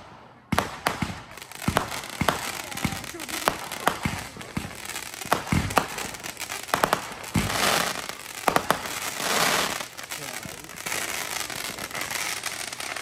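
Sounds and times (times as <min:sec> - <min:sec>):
fireworks banging: 0:00.0 - 0:13.0
fireworks crackling: 0:00.0 - 0:13.0.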